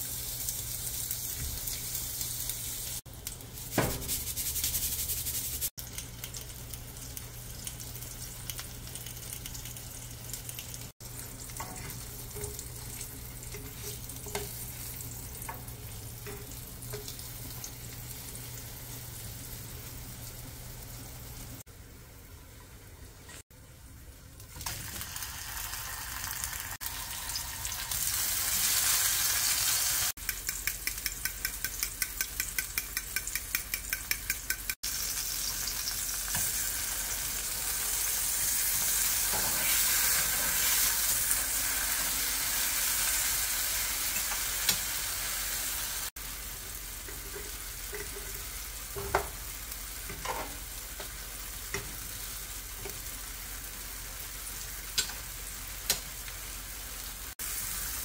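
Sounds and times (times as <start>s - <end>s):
oil sizzling in pans: 0.0s - 58.0s.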